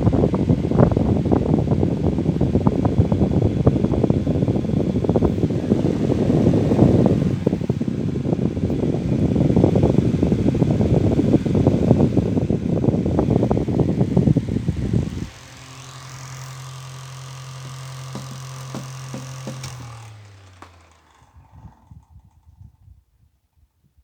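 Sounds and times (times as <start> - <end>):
fan motor hum: 0.0 - 23.1
fan air buffeting microphone: 0.0 - 23.2.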